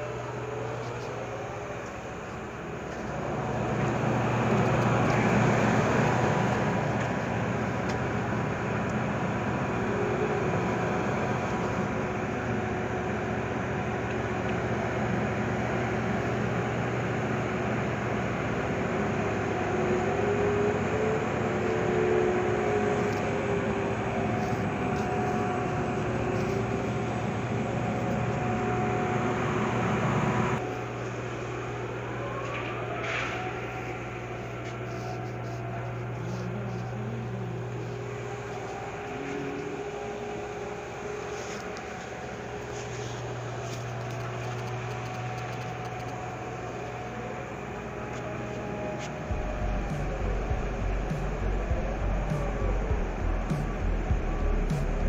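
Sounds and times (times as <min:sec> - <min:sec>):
crane engine and winch noise: 0:00.0 - 0:55.0
low hum: 0:00.0 - 0:55.0
rising whine: 0:00.0 - 0:55.0
wavering whine: 0:00.0 - 0:55.0.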